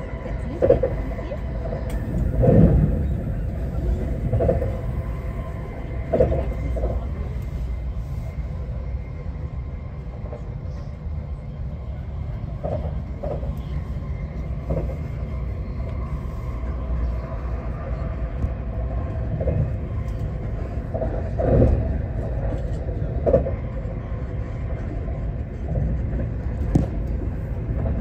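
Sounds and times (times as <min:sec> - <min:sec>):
electric train rumbling: 0:00.0 - 0:28.0.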